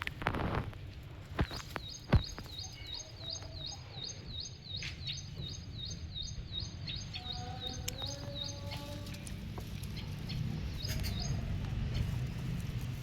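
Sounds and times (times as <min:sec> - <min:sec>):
outdoor background noise: 0:00.0 - 0:13.0
bird chirping: 0:01.4 - 0:12.8.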